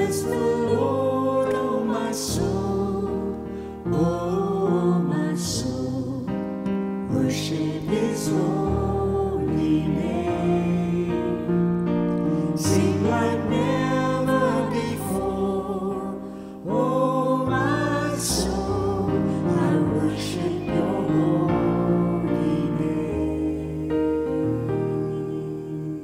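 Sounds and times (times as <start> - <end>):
piano accompaniment: 0.0 - 26.0
vocal quartet singing in harmony: 0.0 - 26.0.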